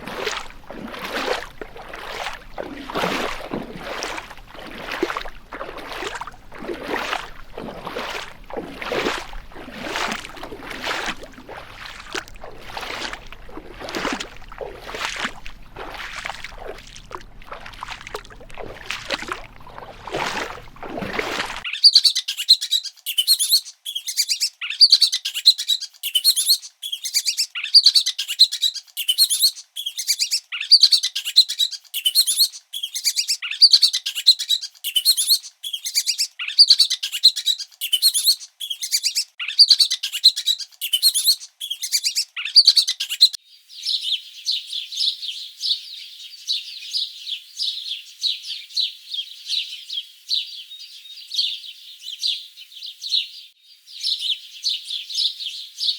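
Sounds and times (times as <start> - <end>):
small birds chirping: 0.0 - 16.8, 17.6 - 55.9.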